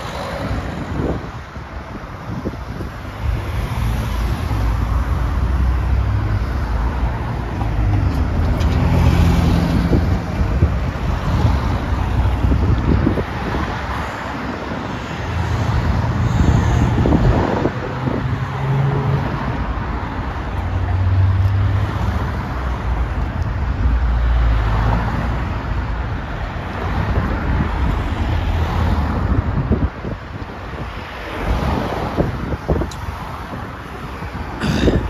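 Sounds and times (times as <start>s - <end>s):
cars driving past: 0.0s - 35.0s.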